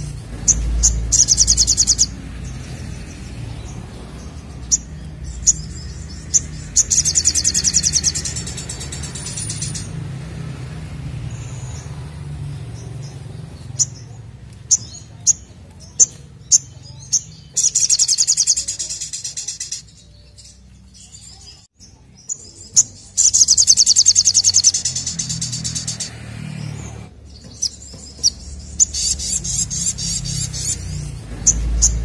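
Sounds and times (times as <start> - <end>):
sunbird singing: 0.0 - 32.0.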